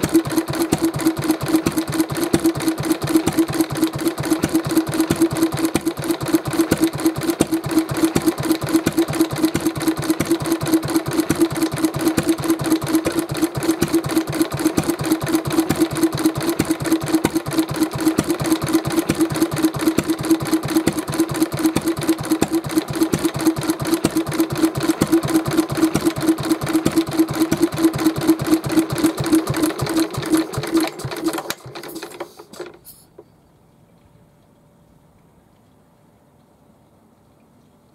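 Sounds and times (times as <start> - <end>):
stationary engine running: 0.0 - 32.8.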